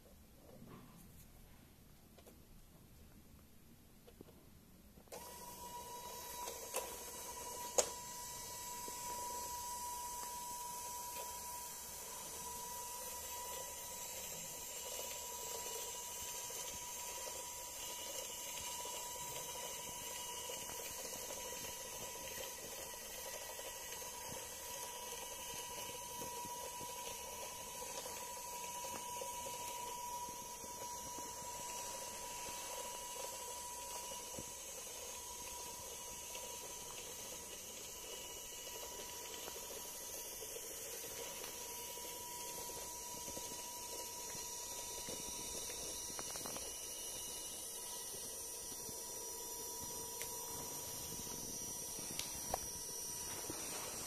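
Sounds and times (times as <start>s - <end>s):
toy motor whine with gear noise: 5.1s - 54.0s.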